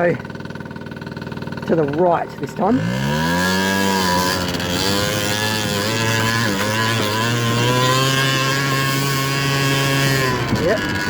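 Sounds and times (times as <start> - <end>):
scooter engine at high revs: 0.0 - 11.0.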